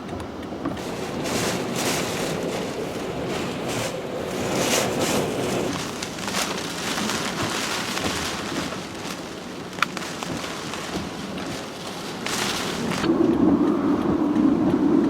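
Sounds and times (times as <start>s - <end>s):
wind and rain rushing: 0.0s - 15.0s.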